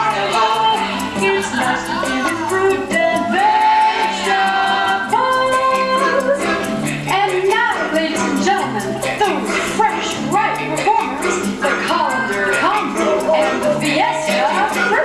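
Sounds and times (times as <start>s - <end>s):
band playing show tune: 0.0s - 15.0s
percussion ticks: 0.0s - 15.0s
voices singing in harmony: 0.0s - 15.0s.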